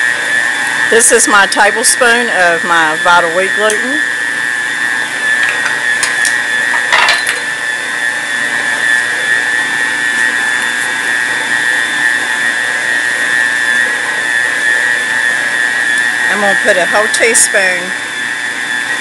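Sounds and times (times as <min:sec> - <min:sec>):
stand mixer kneading dough: 0:00.0 - 0:19.0.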